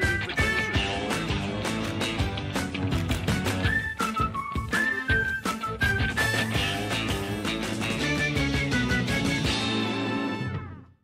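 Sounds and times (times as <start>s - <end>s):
theme music with steady beat: 0.0s - 10.8s.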